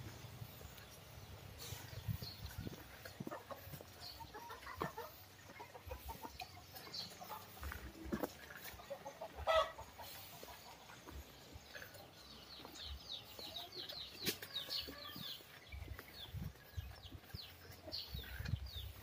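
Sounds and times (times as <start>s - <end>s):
chicken clucking: 1.7s - 19.0s.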